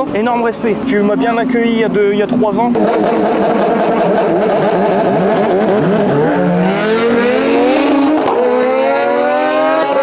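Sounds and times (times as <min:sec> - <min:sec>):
racing engine revving: 0:00.0 - 0:10.0.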